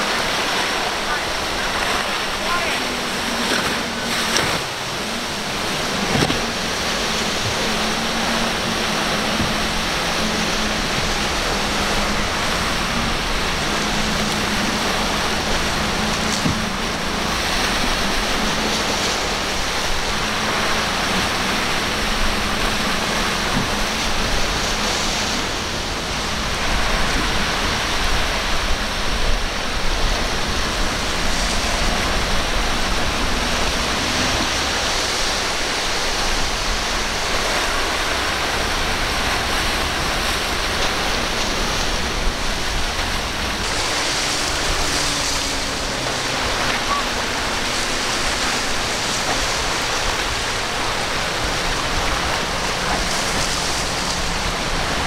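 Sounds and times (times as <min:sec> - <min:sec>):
waves breaking: 0:00.0 - 0:55.0.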